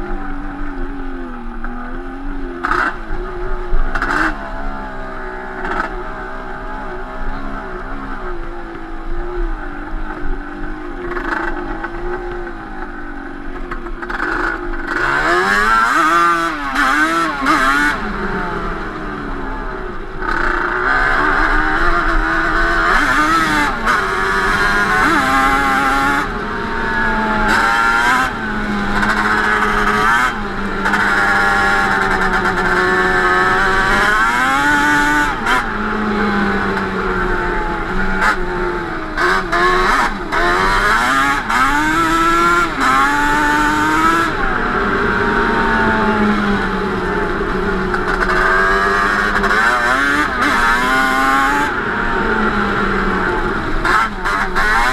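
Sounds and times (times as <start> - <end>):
two-stroke engine revving: 0.0 - 7.9, 11.0 - 13.0, 13.8 - 54.9.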